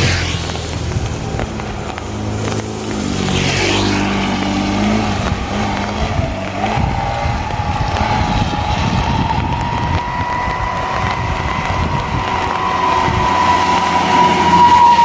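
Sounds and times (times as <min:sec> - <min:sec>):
rain: 0:00.0 - 0:15.0
tyre hiss on wet road: 0:00.0 - 0:15.0
vehicle engine passing: 0:00.0 - 0:15.0.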